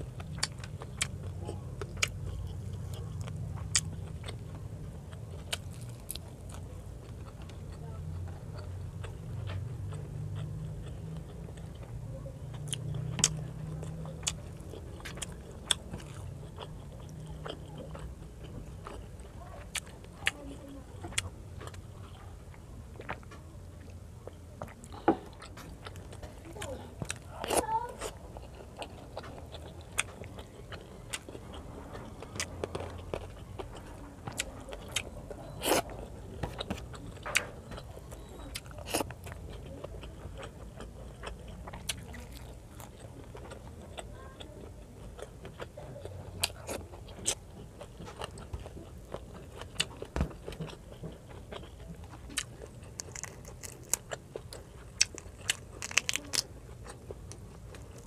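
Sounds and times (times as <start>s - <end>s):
close chewing with crunches: 0.0s - 58.0s.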